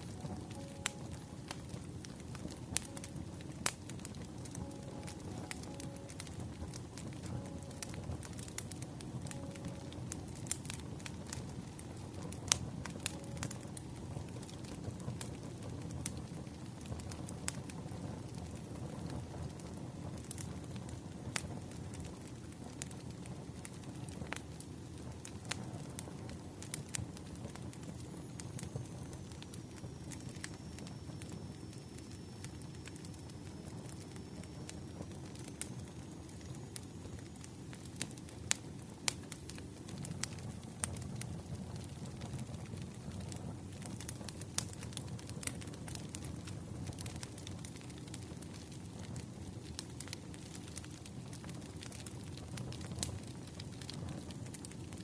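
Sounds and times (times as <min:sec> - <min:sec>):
burning wood crackling and popping: 0:00.0 - 0:55.0
low rumble of flames: 0:00.0 - 0:55.0.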